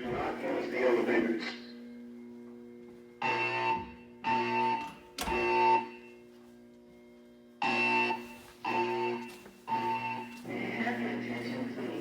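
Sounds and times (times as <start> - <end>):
fire alarm beeps: 0.0 - 6.5, 7.5 - 12.0.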